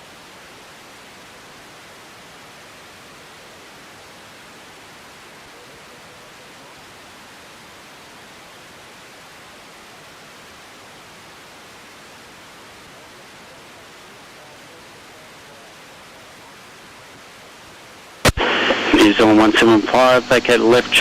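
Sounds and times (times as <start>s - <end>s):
radio feed hiss: 0.0s - 21.0s.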